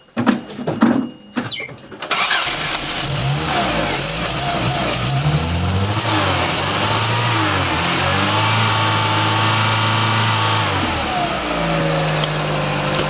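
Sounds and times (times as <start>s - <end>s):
car engine revving: 2.1s - 13.0s.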